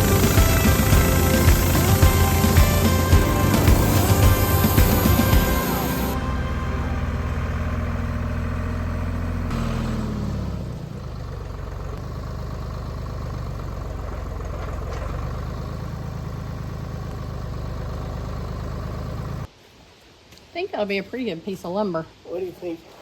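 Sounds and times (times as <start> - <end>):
sawmill engine running: 0.0 - 19.5.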